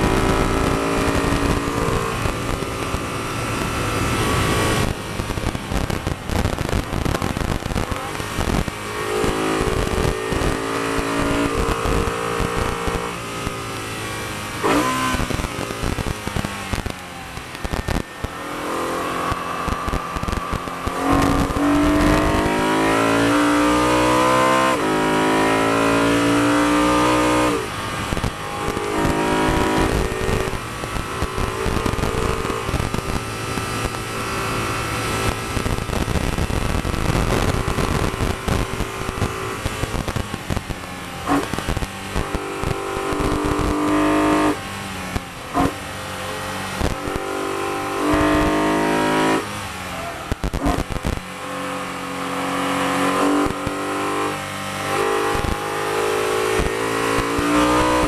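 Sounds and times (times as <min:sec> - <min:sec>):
car engine under hard driving: 0:00.0 - 0:58.0.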